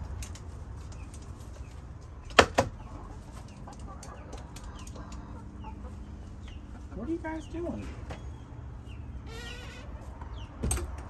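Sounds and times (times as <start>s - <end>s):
chickens clucking: 0.0s - 11.0s
small birds chirping: 0.1s - 11.0s.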